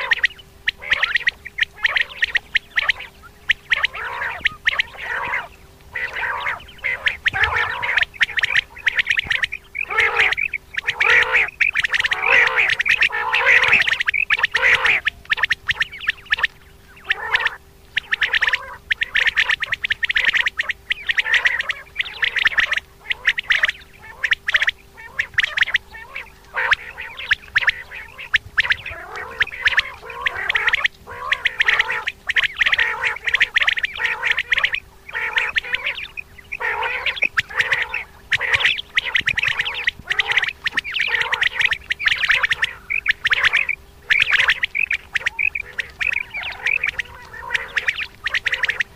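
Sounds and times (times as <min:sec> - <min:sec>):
faint steady hum: 0:00.0 - 0:48.9
quail calling: 0:00.0 - 0:48.9.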